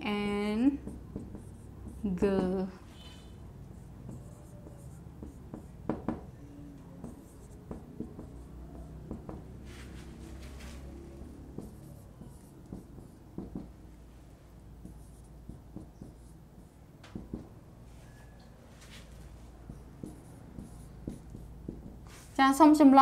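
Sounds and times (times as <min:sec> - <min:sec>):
marker pen writing on whiteboard: 0:00.0 - 0:22.6.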